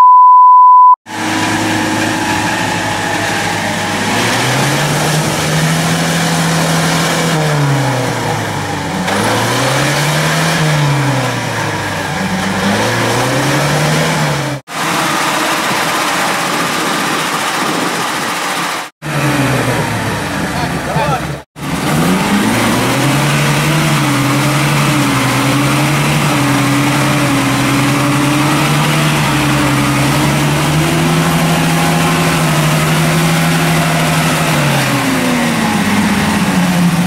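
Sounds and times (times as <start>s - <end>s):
engine revving under load: 1.1s - 37.0s.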